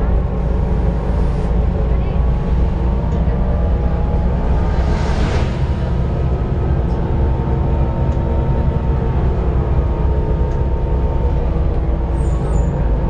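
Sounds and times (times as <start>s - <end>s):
cooling fan whine: 0.0s - 13.0s
diesel bus engine rumble: 0.0s - 13.0s.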